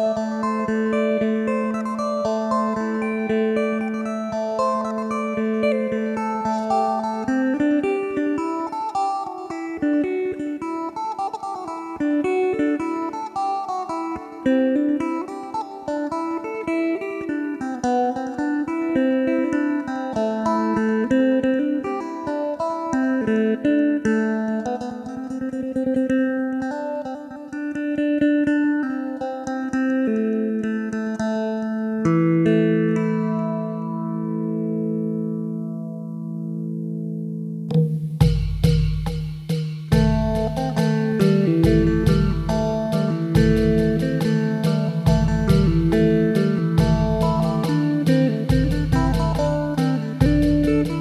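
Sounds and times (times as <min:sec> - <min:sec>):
electric lute plucked melody: 0:00.0 - 0:51.0.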